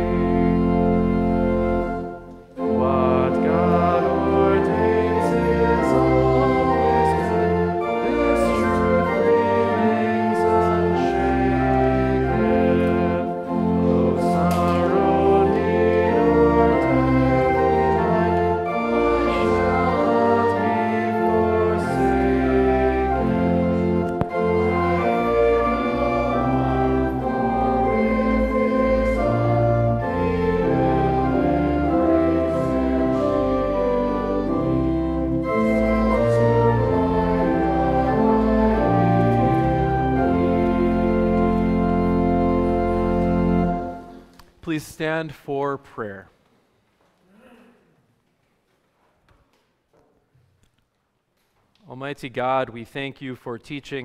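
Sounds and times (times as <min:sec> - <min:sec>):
organ playing sustained chords: 0:00.0 - 0:44.5.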